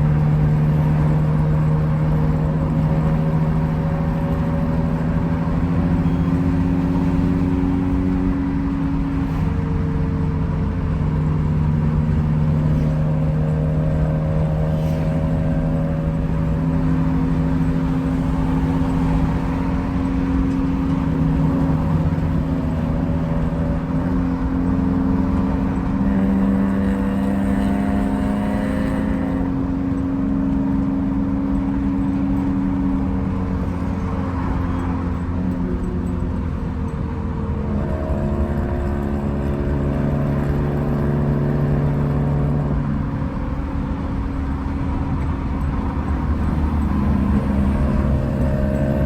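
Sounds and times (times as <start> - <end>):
car engine humming while driving: 0.0 - 49.0
low road rumble: 0.0 - 49.0.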